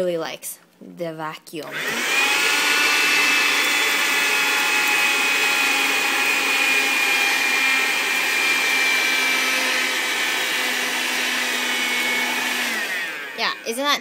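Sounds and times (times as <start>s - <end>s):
handheld vacuum cleaner whine: 1.7s - 13.7s.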